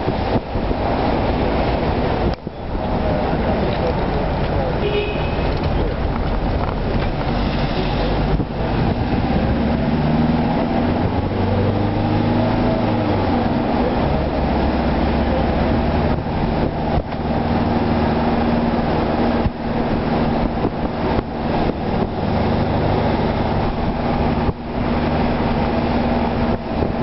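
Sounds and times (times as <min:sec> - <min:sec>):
bus engine hum: 0:00.0 - 0:27.0
road noise: 0:00.0 - 0:27.0.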